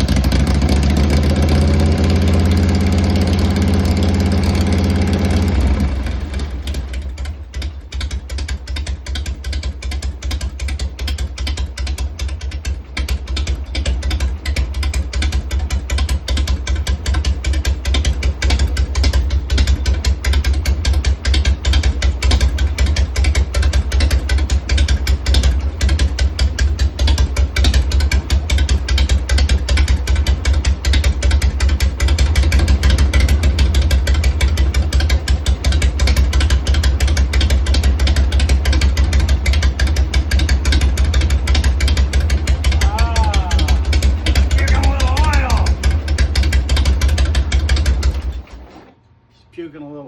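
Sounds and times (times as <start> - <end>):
motorcycle engine idling: 0.0 - 48.7.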